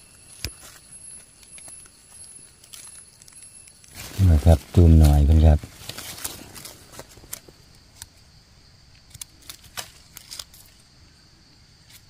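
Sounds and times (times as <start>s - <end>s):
dry leaves and twigs crackling: 0.0s - 12.0s.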